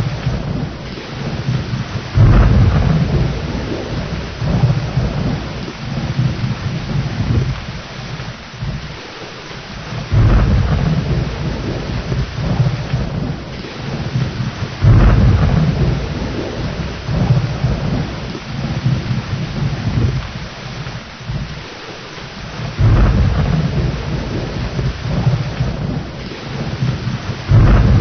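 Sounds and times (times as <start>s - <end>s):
rolling thunder: 0.0s - 9.0s, 9.8s - 21.7s, 22.4s - 28.0s
heavy rain: 0.0s - 28.0s.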